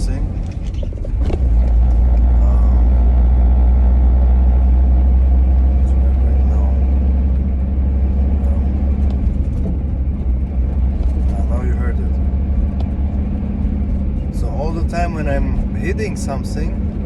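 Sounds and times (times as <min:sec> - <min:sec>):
bus cabin low rumble: 0:00.0 - 0:17.0.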